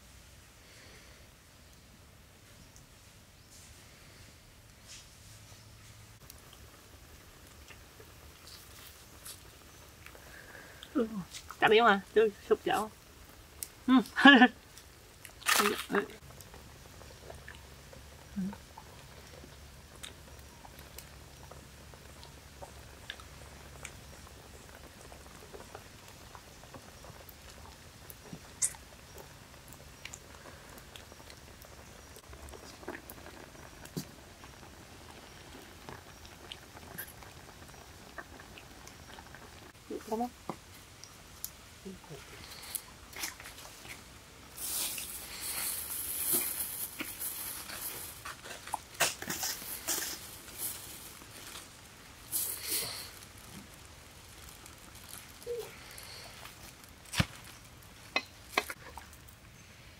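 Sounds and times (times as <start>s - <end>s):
wok hissing and sizzling: 0.0s - 59.9s
fire pops and crackles: 5.8s - 59.5s.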